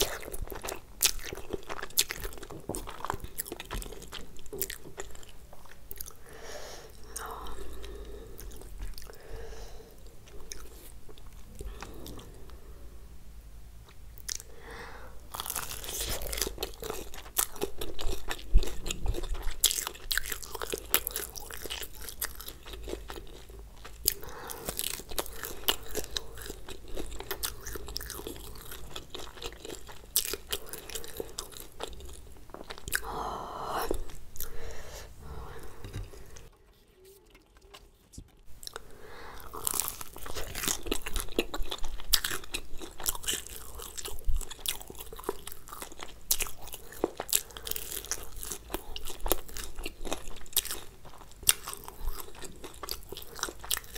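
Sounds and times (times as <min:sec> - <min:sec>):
crunching and chewing food: 0:00.0 - 0:06.3, 0:06.9 - 0:12.6, 0:13.8 - 0:14.6, 0:15.2 - 0:34.8, 0:35.4 - 0:53.9.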